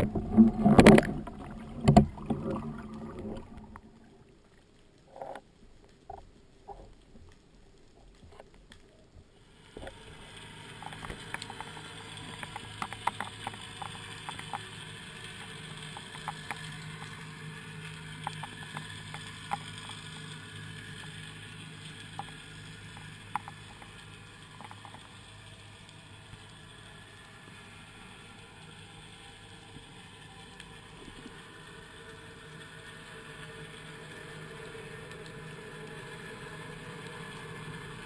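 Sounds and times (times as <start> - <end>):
sharp clicks and crackles: 0.0 - 31.7
low underwater hum: 0.0 - 38.0.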